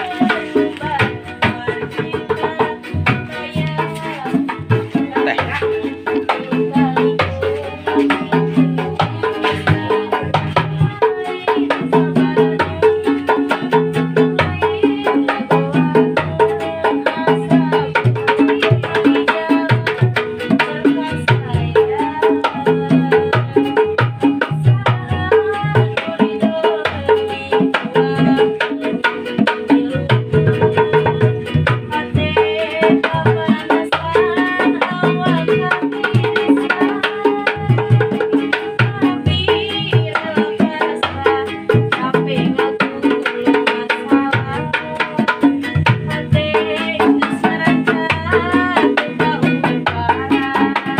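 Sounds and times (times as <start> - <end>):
hand drum beat: 0.0 - 50.9.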